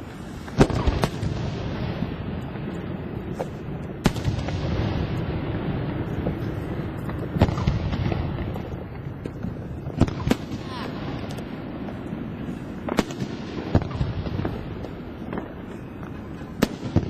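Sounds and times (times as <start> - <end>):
fireworks bursting in sharp bangs: 0.0 - 17.0
small fireworks pops: 0.0 - 17.0.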